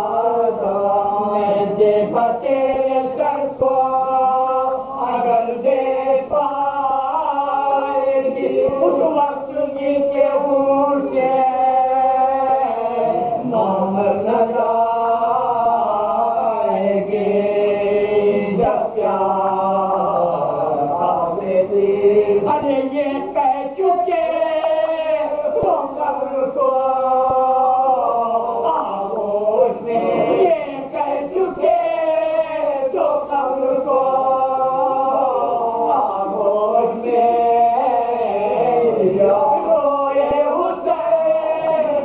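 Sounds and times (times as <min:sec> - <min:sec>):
men chanting together: 0:00.0 - 0:42.0.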